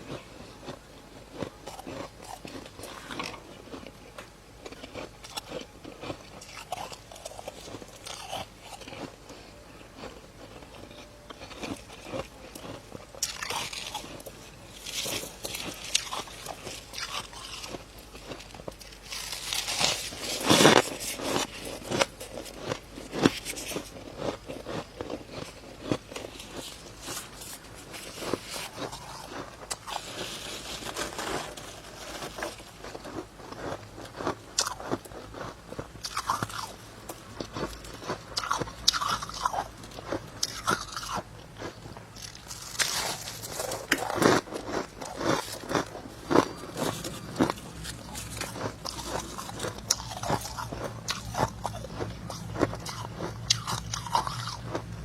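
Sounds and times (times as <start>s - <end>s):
frost being chewed: 0.0s - 55.0s.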